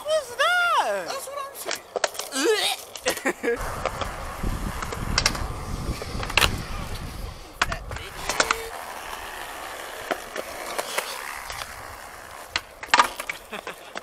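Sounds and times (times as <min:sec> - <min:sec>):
skateboard wheels rolling on concrete: 0:00.0 - 0:14.0
skateboard clacking on ground: 0:01.1 - 0:14.0.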